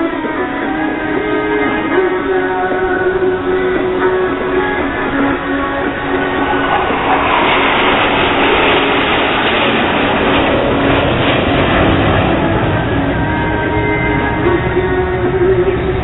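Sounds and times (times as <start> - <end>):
background music: 0.0 - 16.0
aircraft flying past: 0.2 - 16.0.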